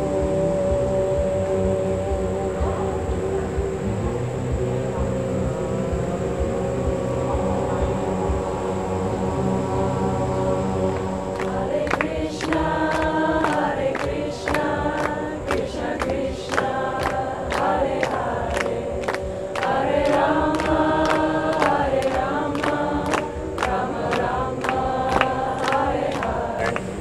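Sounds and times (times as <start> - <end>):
voices singing a chant: 0.0 - 27.0.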